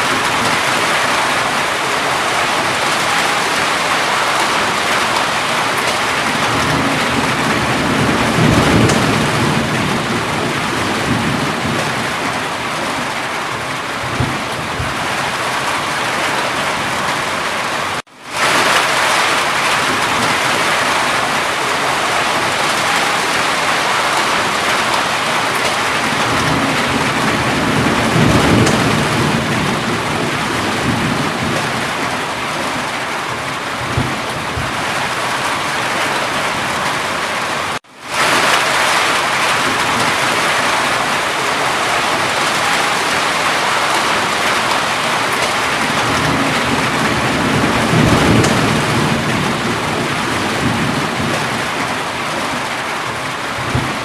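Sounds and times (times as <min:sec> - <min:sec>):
heavy rain: 0:00.0 - 0:54.0
thunder rumbling: 0:00.0 - 0:54.0.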